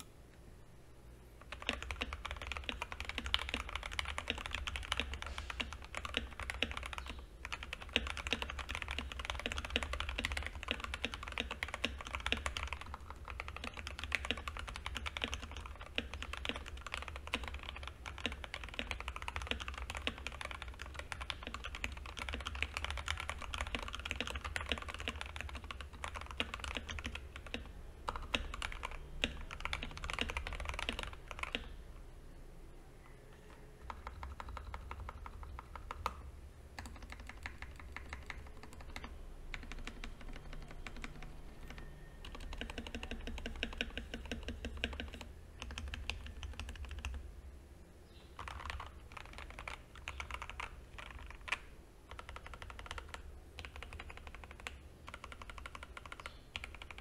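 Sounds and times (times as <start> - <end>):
fast mechanical keyboard typing: 1.4 - 31.8, 33.4 - 36.2, 36.8 - 47.2, 48.4 - 57.0.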